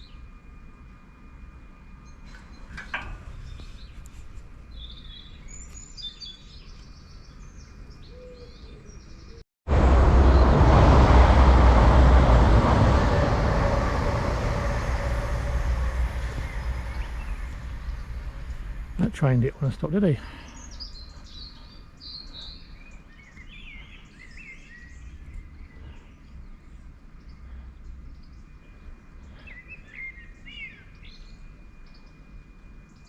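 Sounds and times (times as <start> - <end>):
train rumbling past: 1.4 - 5.6, 9.7 - 32.4
birds chirping: 2.0 - 9.4, 10.2 - 32.3.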